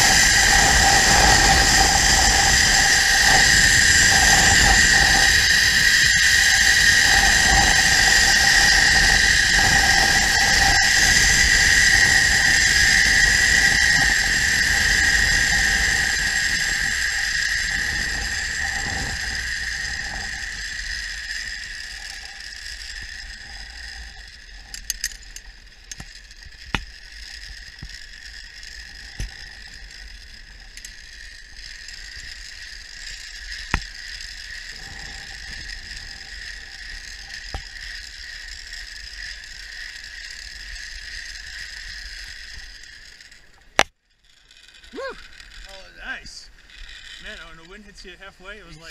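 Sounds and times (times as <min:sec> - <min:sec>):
pulley wheels whining on cable: 0:00.0 - 0:48.9.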